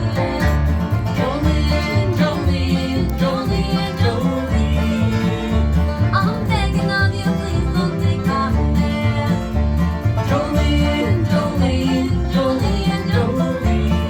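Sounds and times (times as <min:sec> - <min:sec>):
bluegrass band playing: 0:00.0 - 0:14.0.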